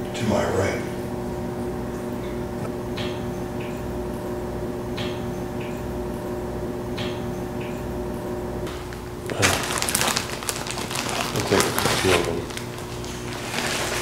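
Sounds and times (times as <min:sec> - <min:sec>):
steady room hum: 0:00.0 - 0:14.0.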